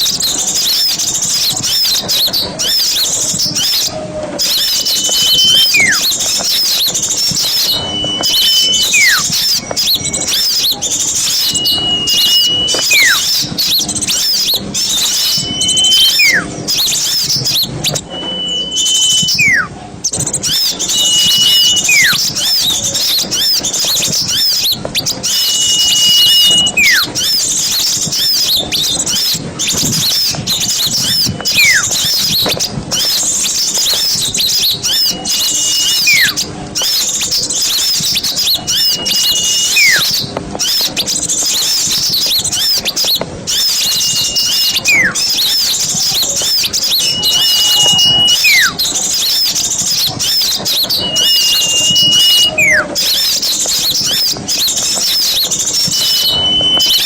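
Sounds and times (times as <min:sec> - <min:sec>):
bird whistle call: 0:00.0 - 0:57.0
songbirds twittering and chirping: 0:00.0 - 0:57.0.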